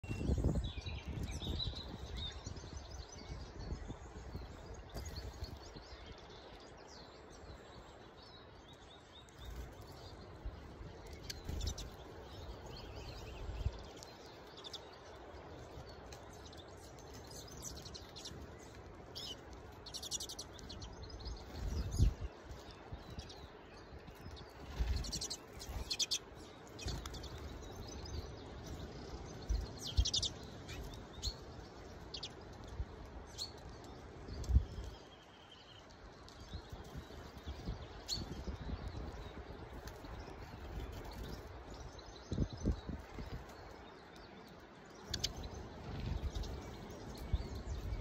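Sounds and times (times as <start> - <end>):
finches chirping and twittering: 0.0 - 48.0.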